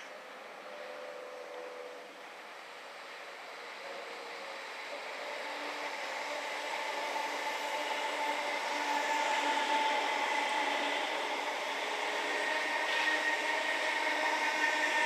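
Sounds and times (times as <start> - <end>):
electric train running past: 0.0 - 15.0.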